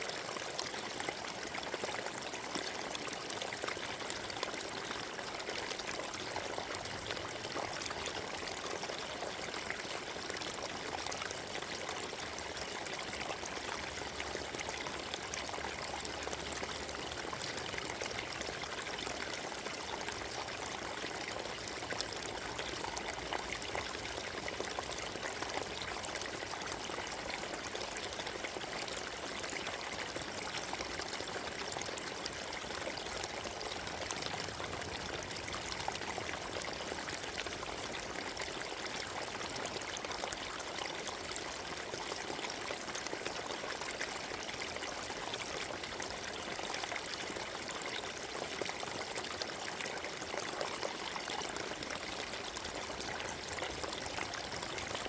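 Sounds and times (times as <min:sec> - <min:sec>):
stream gurgling over stones: 0:00.0 - 0:55.0.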